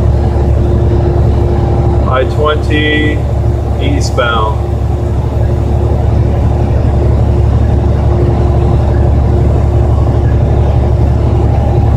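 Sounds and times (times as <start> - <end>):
car cabin road rumble: 0.0 - 11.9
faint steady hum: 0.0 - 11.9.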